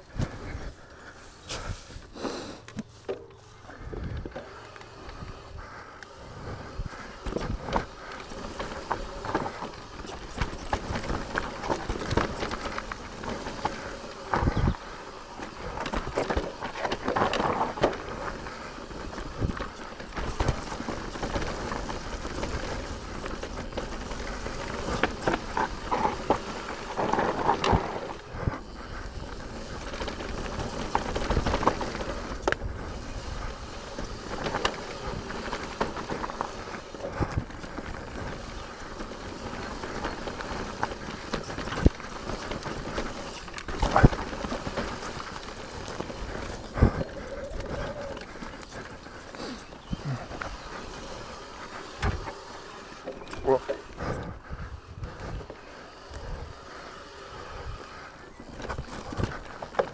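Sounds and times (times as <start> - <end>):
bike tyres rolling over dirt: 0.0 - 59.9
bike clattering over bumps: 2.7 - 59.9.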